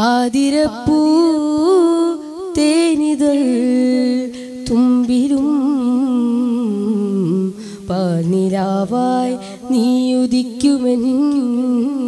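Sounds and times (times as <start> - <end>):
boy singing into a microphone: 0.0 - 12.0.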